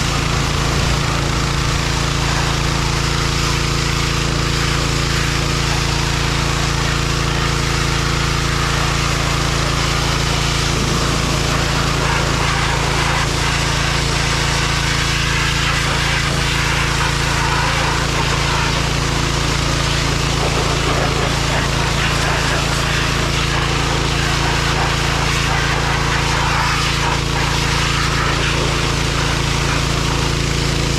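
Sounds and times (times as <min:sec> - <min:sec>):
tractor diesel engine running: 0:00.0 - 0:26.5, 0:27.2 - 0:30.9.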